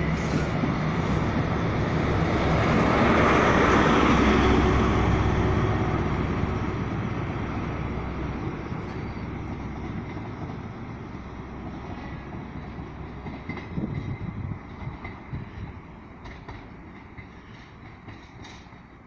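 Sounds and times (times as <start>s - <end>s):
diesel train departing: 0.0s - 19.0s.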